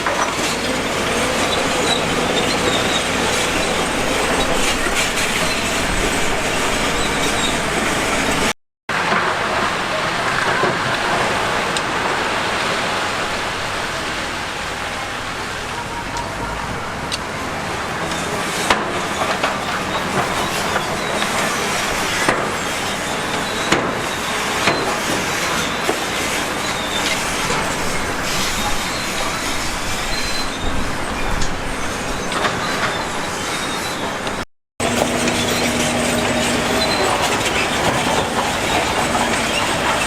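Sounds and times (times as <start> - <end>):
heavy machinery grinding and rumbling: 0.0 - 40.0.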